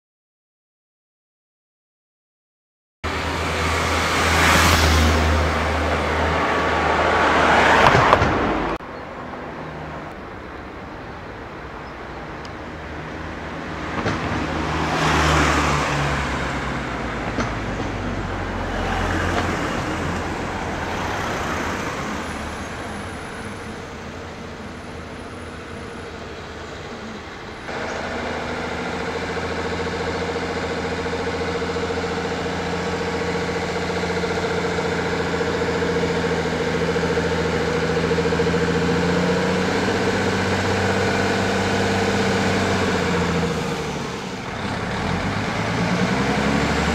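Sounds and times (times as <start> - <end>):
lorry diesel engine running: 3.0 - 46.9
traffic passing slowly: 3.0 - 46.9.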